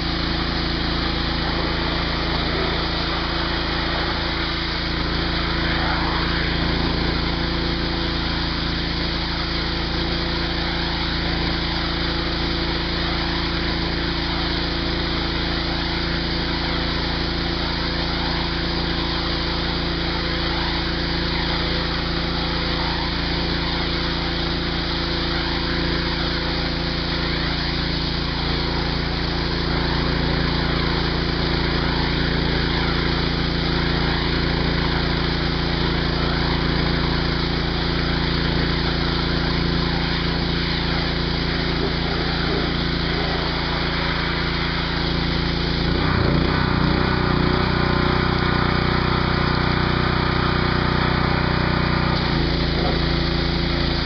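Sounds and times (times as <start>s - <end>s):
water spray hissing: 0.0s - 47.5s, 52.1s - 54.0s
pressure washer engine running: 0.0s - 54.0s.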